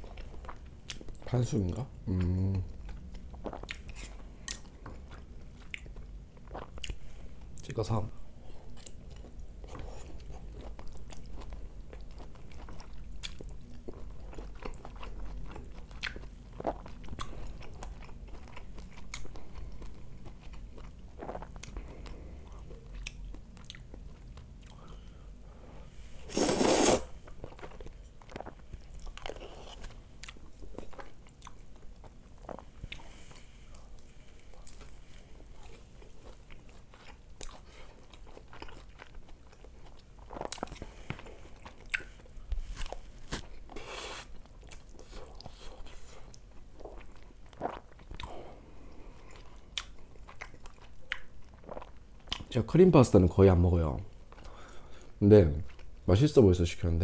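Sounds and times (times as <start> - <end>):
chewing and biting food: 0.0 - 1.3, 2.2 - 7.6, 8.7 - 25.0, 26.4 - 52.5, 55.7 - 56.0.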